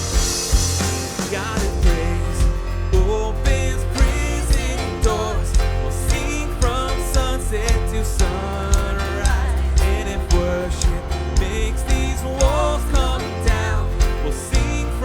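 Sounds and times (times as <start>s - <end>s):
live worship band playing: 0.0s - 15.0s.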